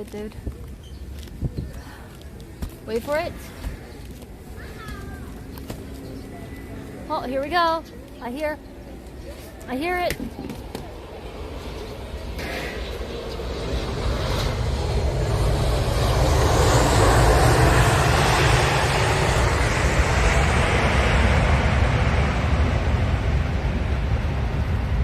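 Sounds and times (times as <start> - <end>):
jet airliner taking off: 3.4 - 25.0.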